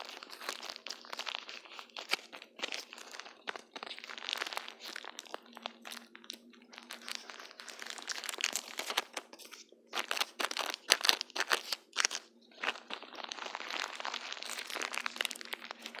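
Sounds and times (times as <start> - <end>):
plastic film crackling: 0.0 - 16.0.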